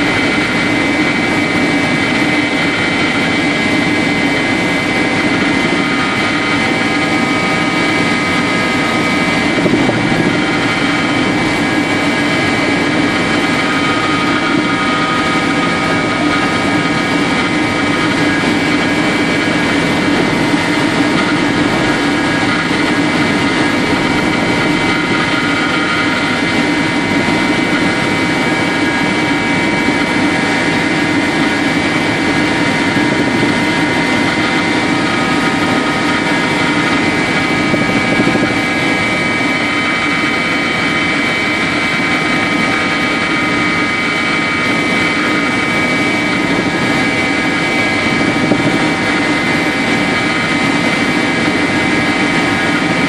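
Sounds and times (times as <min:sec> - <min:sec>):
helicopter engine and rotor drone: 0:00.0 - 0:53.0
high whine: 0:00.0 - 0:53.0.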